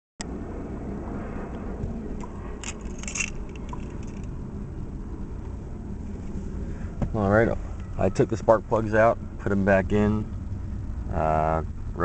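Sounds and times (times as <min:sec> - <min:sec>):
car engine idling with ticking: 0:01.5 - 0:12.0.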